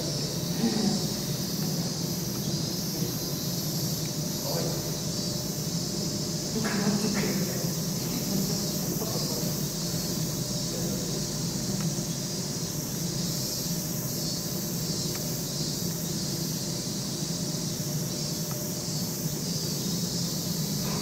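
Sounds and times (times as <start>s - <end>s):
constant low hum: 0.0s - 21.0s
insects chirring: 0.0s - 21.0s.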